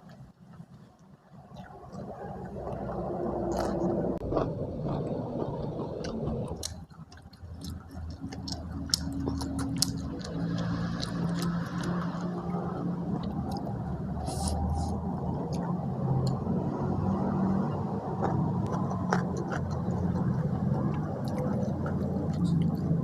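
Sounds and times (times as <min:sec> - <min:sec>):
chewing food: 0:00.0 - 0:16.8, 0:18.2 - 0:23.0
mouth clicks and smacks: 0:00.0 - 0:16.8, 0:18.1 - 0:23.0.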